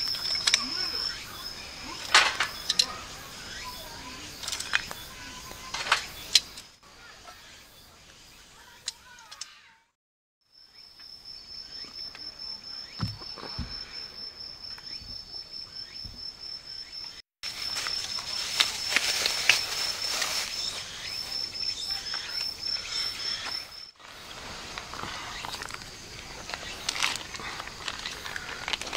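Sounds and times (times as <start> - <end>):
high-pitched insect trill: 0.0 - 7.9, 10.5 - 28.9.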